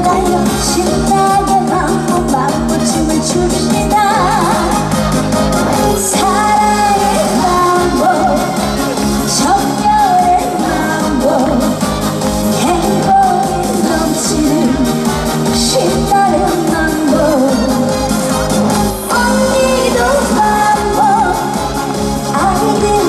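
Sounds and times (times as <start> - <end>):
amplified band playing: 0.0 - 23.0
woman singing: 0.0 - 23.0.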